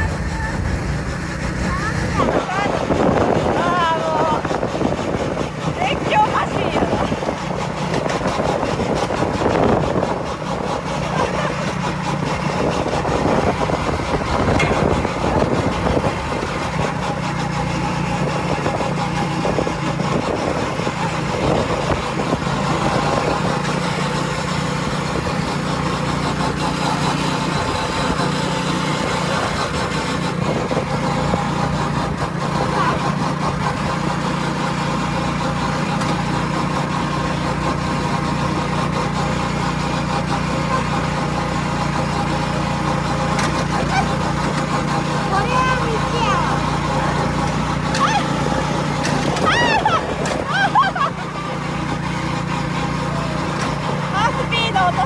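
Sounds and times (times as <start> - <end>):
go-kart engine running: 0.0 - 55.0
road and rattle noise: 0.0 - 55.0.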